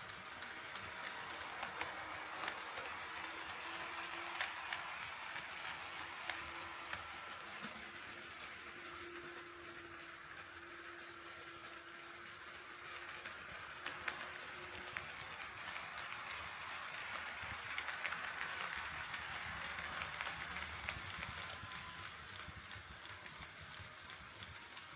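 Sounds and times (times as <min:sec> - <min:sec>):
model train running hiss: 0:00.0 - 0:24.9
wheels clicking over rail joints: 0:00.0 - 0:24.9.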